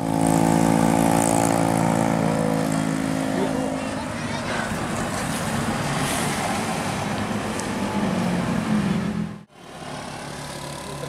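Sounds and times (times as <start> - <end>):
bus diesel engine passing: 0.0 - 11.0.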